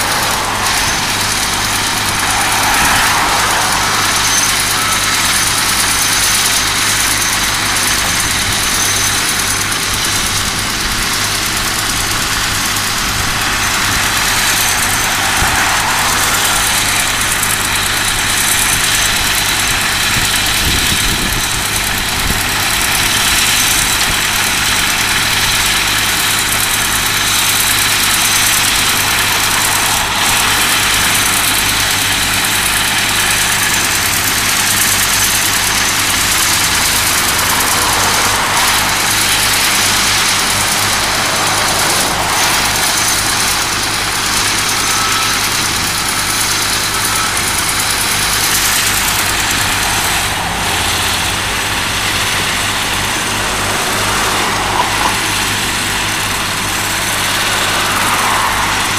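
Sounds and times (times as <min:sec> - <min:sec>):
diesel engines running: 0:00.0 - 0:58.9.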